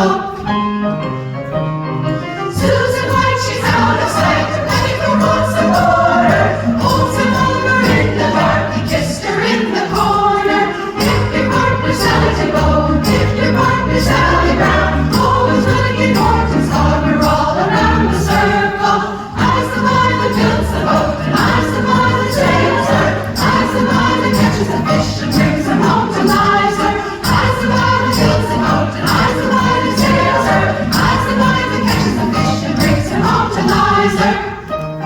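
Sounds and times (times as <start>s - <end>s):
women's chorus singing: 0.0s - 0.6s, 2.5s - 34.8s
instrumental accompaniment with bass: 1.5s - 18.7s, 19.4s - 34.2s.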